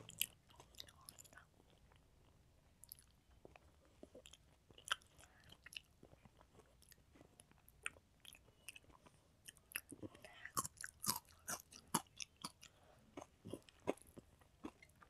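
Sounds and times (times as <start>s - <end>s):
chewing rice: 0.0s - 15.0s.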